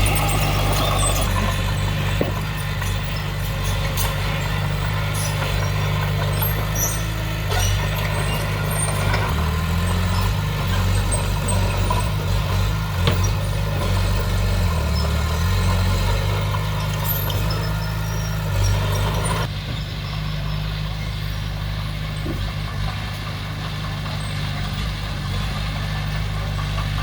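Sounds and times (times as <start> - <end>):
heavy machinery diesel engine: 0.0 - 27.0.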